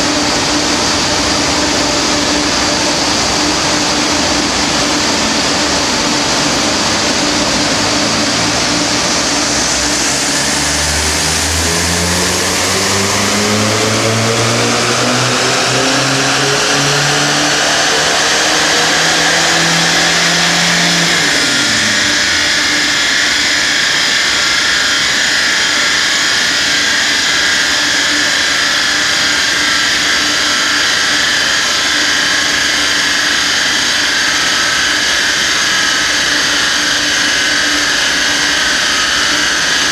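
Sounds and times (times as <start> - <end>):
cooling fan whooshing: 0.0 - 39.9
turbodiesel engine revving: 0.0 - 39.9.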